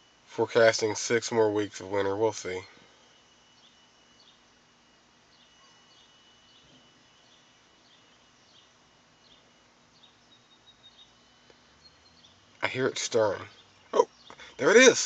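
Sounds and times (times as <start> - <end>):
faint outdoor ambience: 0.0 - 15.0
small high chirps: 2.6 - 14.7.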